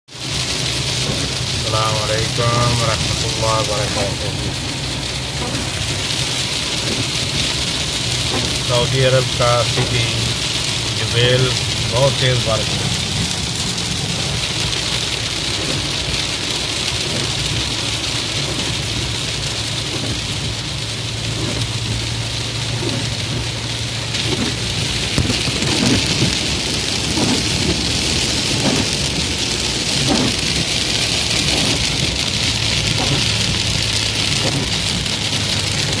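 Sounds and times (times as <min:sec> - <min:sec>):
car engine and tyres humming: 0:00.1 - 0:36.0
heavy rain drumming on car roof: 0:00.1 - 0:36.0
raindrop taps: 0:00.2 - 0:36.0.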